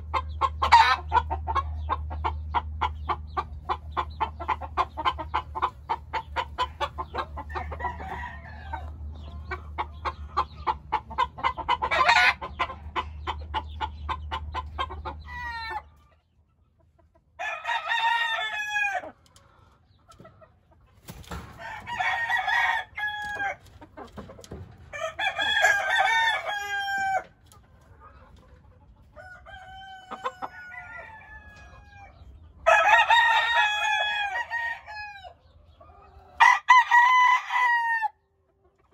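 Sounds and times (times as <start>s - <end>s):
roosters crowing: 0.0s - 2.5s, 3.9s - 16.0s, 17.4s - 19.6s, 21.2s - 27.4s, 29.0s - 38.3s
chickens clucking: 0.0s - 38.9s.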